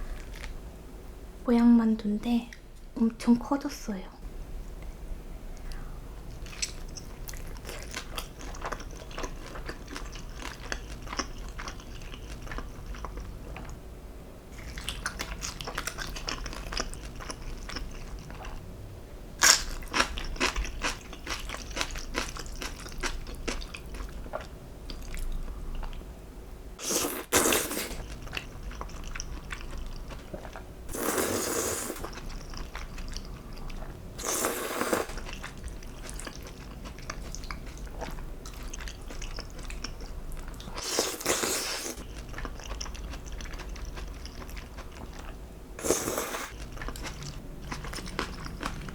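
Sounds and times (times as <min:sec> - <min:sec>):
crunchy chewing: 0:06.3 - 0:13.8, 0:14.6 - 0:18.6, 0:19.4 - 0:26.0, 0:26.8 - 0:48.9.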